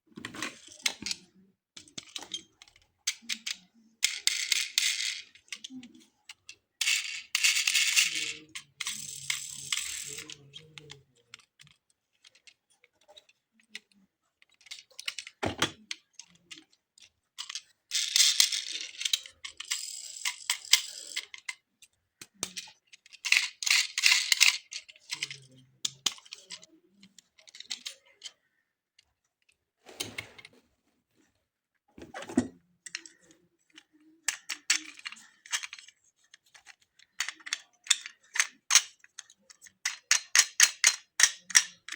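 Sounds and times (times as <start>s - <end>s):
toy cars knocking and rattling: 0.1s - 30.5s, 32.0s - 41.9s.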